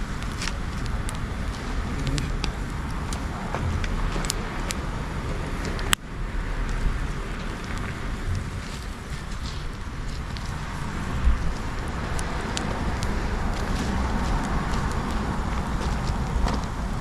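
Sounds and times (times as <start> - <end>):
bonfire crackling and popping: 0.0 - 17.0
wind rumble on microphone: 0.0 - 17.0.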